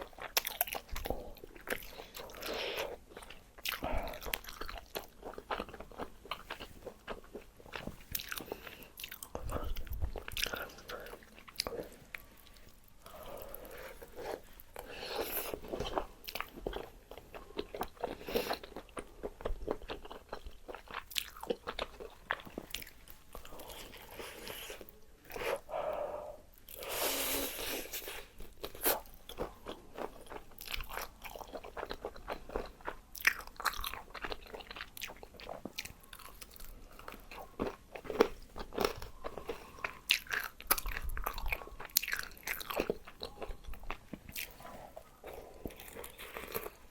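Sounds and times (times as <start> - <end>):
crunching and chewing fried chicken: 0.0 - 25.7, 27.6 - 46.9.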